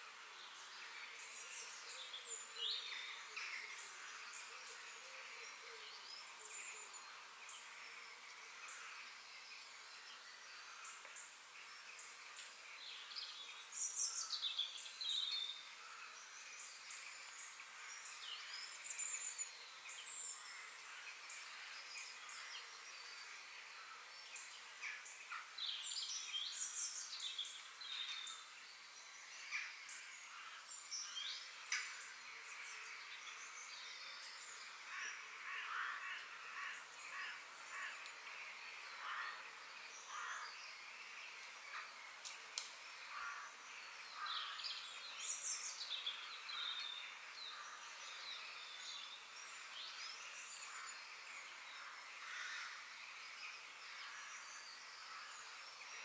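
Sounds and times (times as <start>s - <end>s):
faint high hiss: 0.0s - 56.0s
songbirds chirping: 0.0s - 56.0s.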